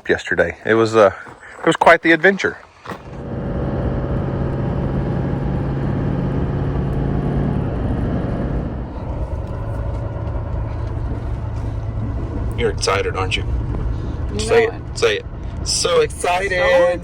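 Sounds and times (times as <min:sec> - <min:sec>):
road noise: 0:00.0 - 0:17.0
vehicle engine running: 0:02.9 - 0:17.0.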